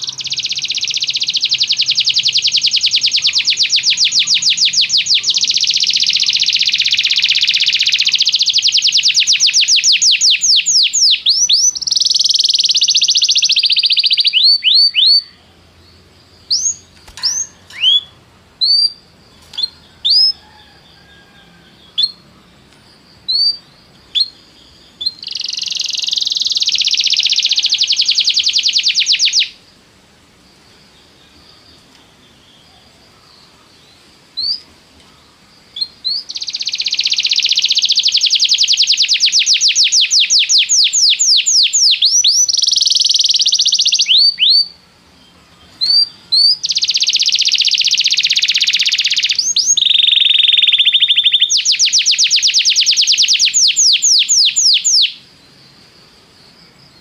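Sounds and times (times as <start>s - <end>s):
canary singing trills and chirps: 0.0s - 29.6s, 35.6s - 55.6s.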